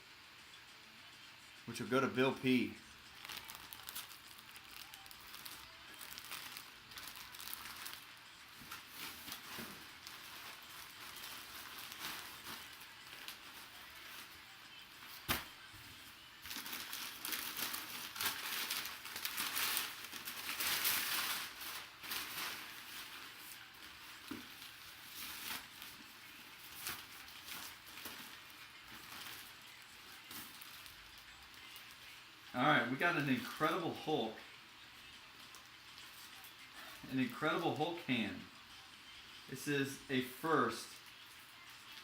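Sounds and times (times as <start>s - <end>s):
plastic packaging crinkling: 2.2s - 32.3s, 33.0s - 34.1s, 35.3s - 37.8s.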